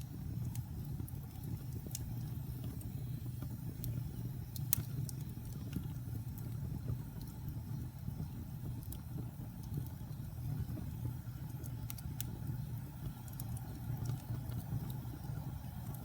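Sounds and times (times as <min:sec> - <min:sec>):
fire crackles and pops: 0:00.0 - 0:16.0
fire rumbling in fireplace: 0:00.0 - 0:16.0.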